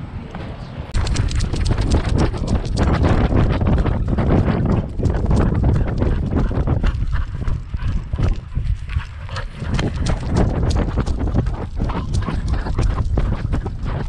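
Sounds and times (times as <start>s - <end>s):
heavy low rumble: 0.0s - 14.0s.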